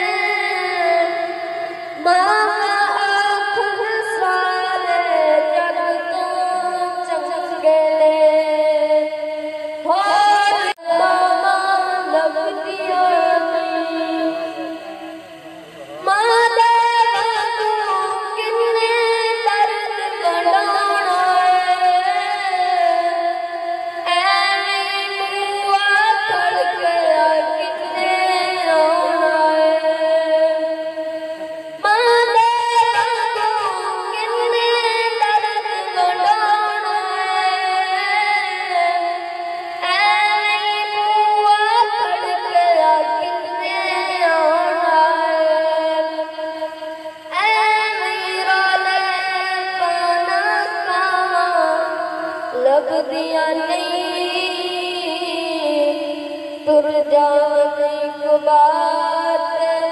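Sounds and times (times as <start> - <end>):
solo voice singing through microphone: 0.0 - 59.9.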